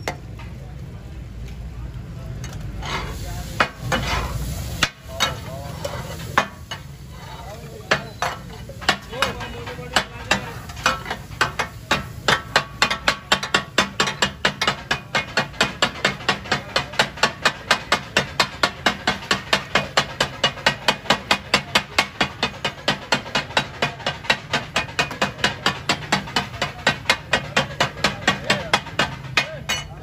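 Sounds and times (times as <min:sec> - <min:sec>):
metal spatula chopping on griddle: 0:02.7 - 0:30.0.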